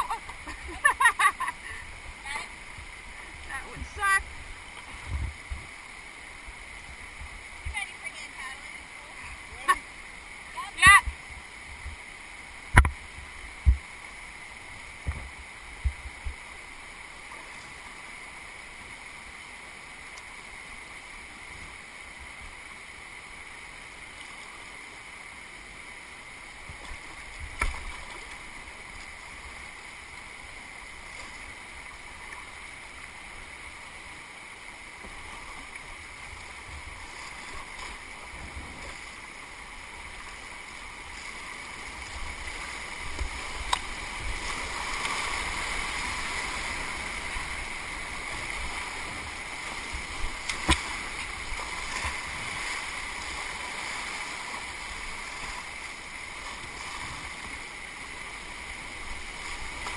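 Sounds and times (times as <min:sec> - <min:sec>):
river water rushing through rapids: 0:00.0 - 0:59.9.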